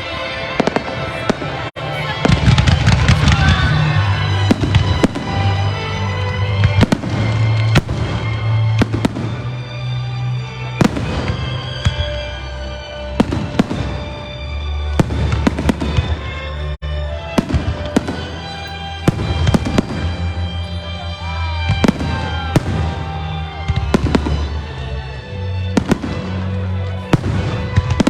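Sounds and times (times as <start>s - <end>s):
fireworks bangs: 0.0s - 28.0s
loud music: 0.0s - 28.0s.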